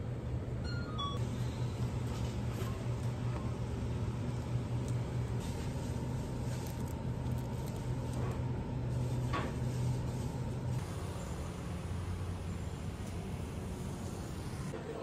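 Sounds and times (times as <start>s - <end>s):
refrigerator hum: 0.0s - 15.0s.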